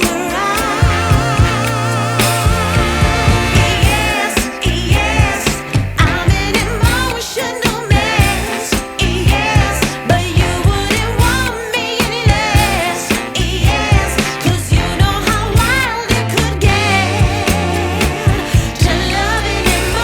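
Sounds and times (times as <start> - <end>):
pop song with singing: 0.0 - 20.0.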